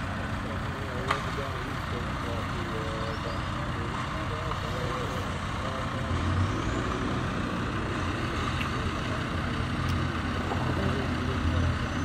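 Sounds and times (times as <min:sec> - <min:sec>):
engine running low rumble: 0:00.0 - 0:12.0.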